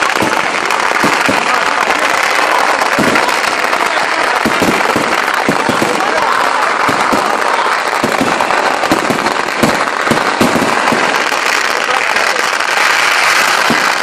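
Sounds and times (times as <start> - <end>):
firecracker bangs: 0.0 - 14.0
firecrackers crackling: 0.0 - 14.0.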